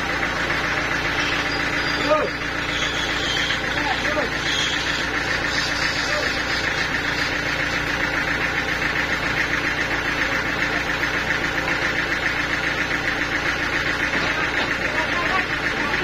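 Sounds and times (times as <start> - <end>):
band sawmill running: 0.0 - 16.0.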